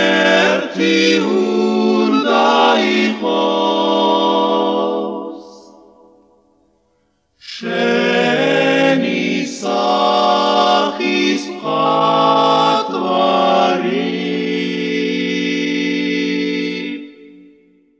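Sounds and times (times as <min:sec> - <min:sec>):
male vocal quartet singing harmony: 0:00.0 - 0:06.1, 0:07.4 - 0:17.5.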